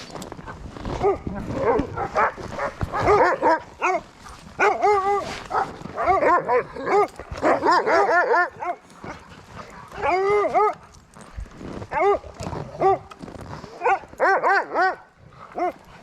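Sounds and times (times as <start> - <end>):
dogs barking and yipping: 0.9 - 16.0.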